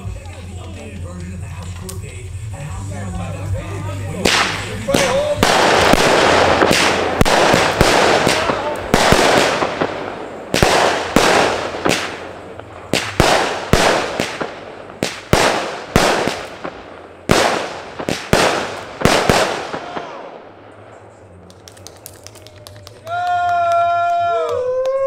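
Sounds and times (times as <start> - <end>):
fireworks banging: 0.0 - 24.3.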